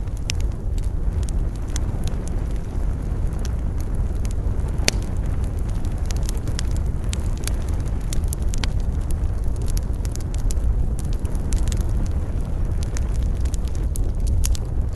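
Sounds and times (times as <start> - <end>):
campfire crackling and popping: 0.0 - 14.9
low rumble of wind: 0.0 - 14.9.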